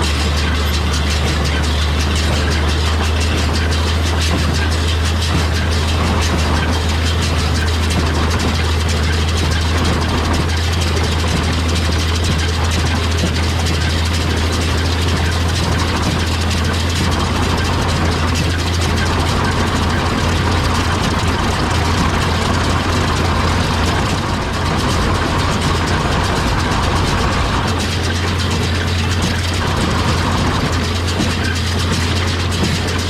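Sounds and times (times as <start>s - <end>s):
baler machinery clatter: 0.0s - 33.0s
tractor engine droning: 0.0s - 33.0s.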